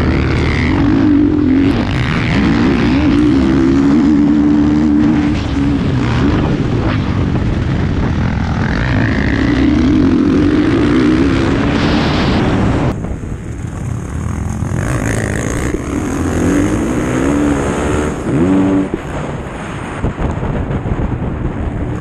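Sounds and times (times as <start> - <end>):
motorbike engine revving: 0.0 - 20.1
wind rush on microphone: 0.0 - 22.0.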